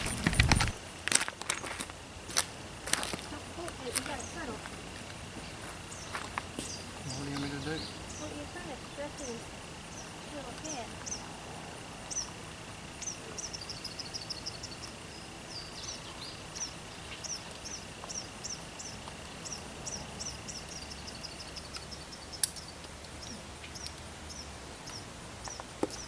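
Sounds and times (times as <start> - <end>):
insect drone: 0.0 - 26.0
small birds chirping: 0.0 - 26.0.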